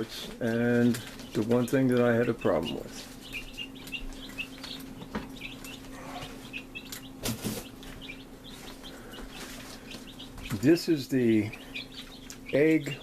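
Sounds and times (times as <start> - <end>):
baby chicks peeping: 0.0 - 13.0
steady low hum: 0.0 - 13.0.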